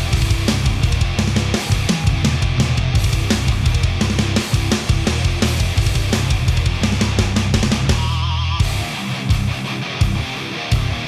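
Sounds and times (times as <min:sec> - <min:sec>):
driving drum beat: 0:00.0 - 0:11.0
heavy low bass line: 0:00.0 - 0:11.0
heavy metal music: 0:00.0 - 0:11.0.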